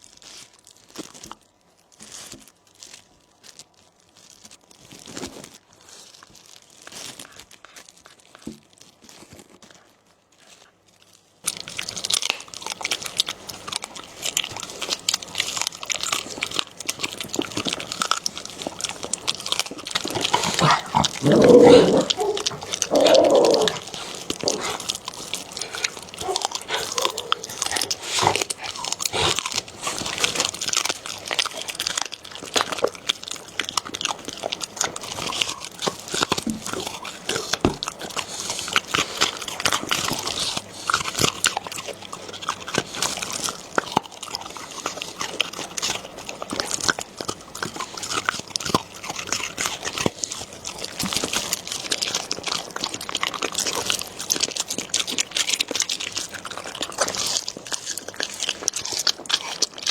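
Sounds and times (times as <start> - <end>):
dog chewing food: 0.2 - 59.9.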